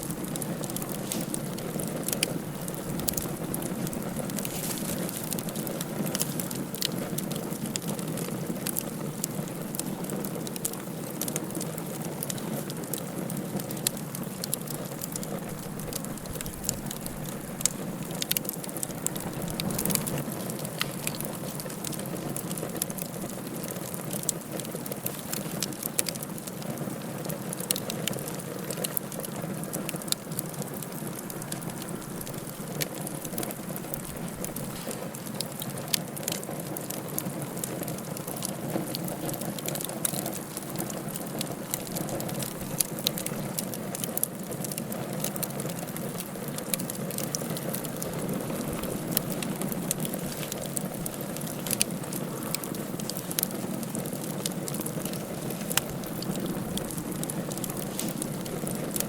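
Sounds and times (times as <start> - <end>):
fire crackles and pops: 0.0 - 59.0
wood fire hissing: 0.0 - 59.0.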